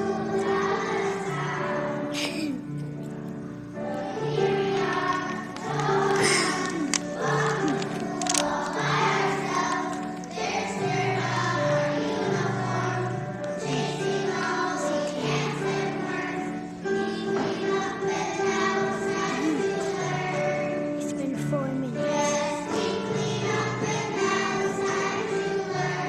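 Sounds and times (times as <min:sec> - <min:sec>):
children singing together: 0:00.0 - 0:26.0.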